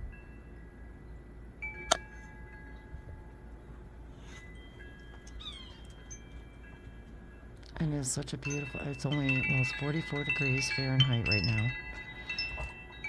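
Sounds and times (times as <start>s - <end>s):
wind chimes ringing: 0.0s - 13.0s.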